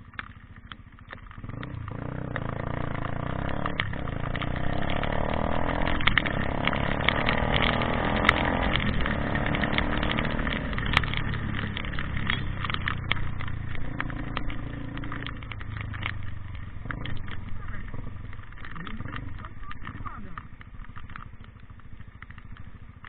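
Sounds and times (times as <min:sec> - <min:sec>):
sharp clicks and knocks: 0:00.0 - 0:23.0
vehicle engine running: 0:00.0 - 0:23.0.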